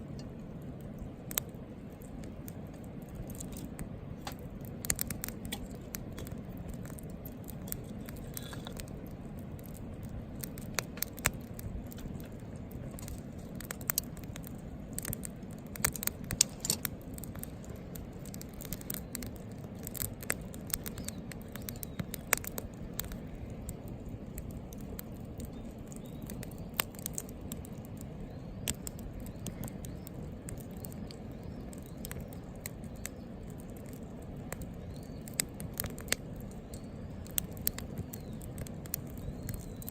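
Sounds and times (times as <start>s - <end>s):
low rush of flame: 0.0s - 39.9s
wood fire crackling and popping: 0.0s - 39.9s.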